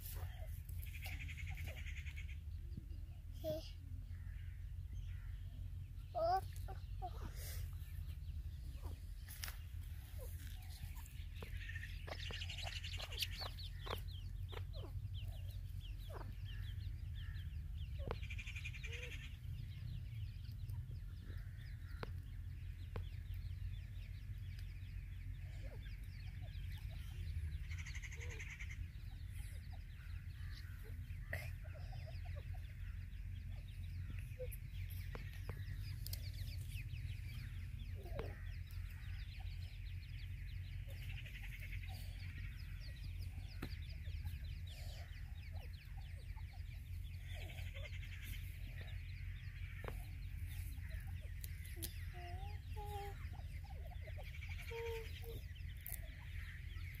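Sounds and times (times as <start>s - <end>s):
chicks peeping: 0.0s - 57.0s
soft low bird clucks: 0.0s - 57.0s.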